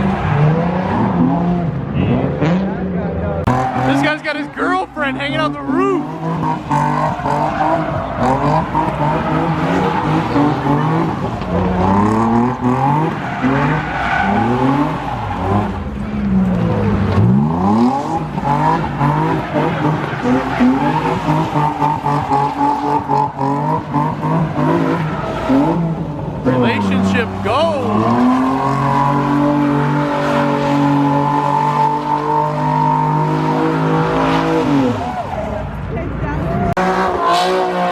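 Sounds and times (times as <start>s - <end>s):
car engines revving hard: 0.0s - 37.9s.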